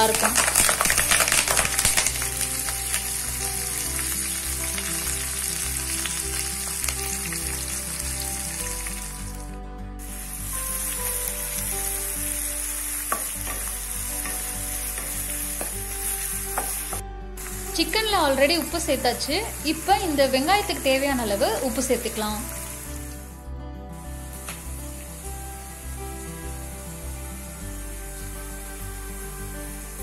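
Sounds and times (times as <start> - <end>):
onions sizzling in hot oil: 0.0 - 9.4, 10.0 - 23.4, 24.1 - 30.0.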